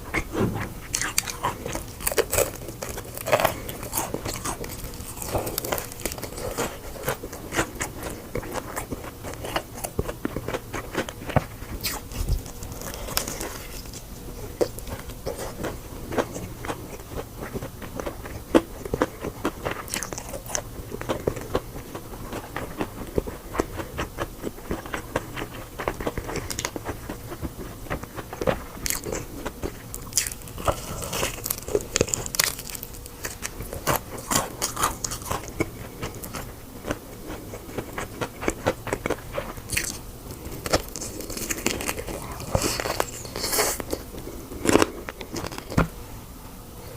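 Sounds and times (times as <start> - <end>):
crunchy chewing of crispy food: 0.0 - 46.9.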